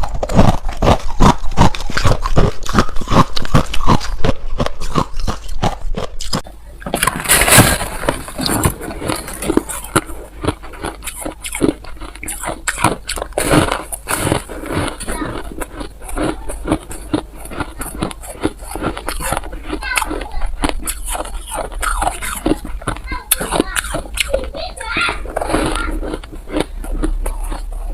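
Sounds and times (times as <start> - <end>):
ice crunching while chewed: 0.0 - 27.9.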